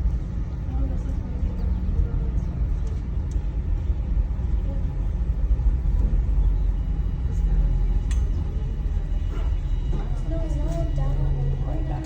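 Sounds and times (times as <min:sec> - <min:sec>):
cable car cabin rumble: 0:00.0 - 0:12.0.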